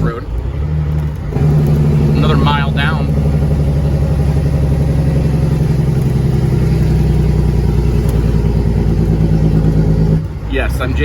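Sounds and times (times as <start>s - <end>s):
truck engine brake chatter: 0.0s - 10.4s.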